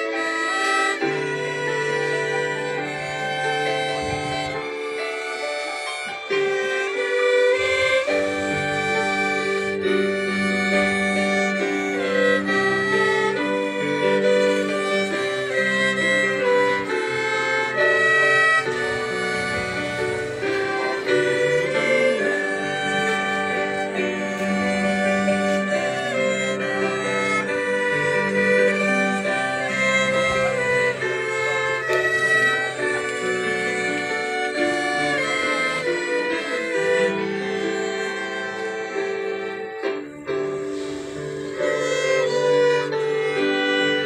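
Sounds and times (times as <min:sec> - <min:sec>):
violins playing long held notes: 0:00.0 - 0:44.0.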